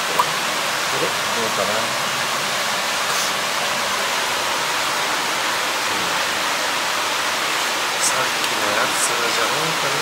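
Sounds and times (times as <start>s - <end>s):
rushing bubbling water: 0.0s - 10.0s.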